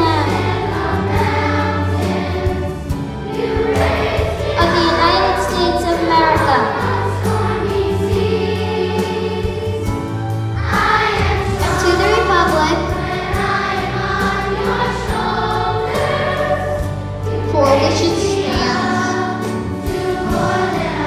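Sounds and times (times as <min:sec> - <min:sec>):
children's chorus singing: 0:00.0 - 0:21.0
instrumental accompaniment: 0:00.0 - 0:21.0.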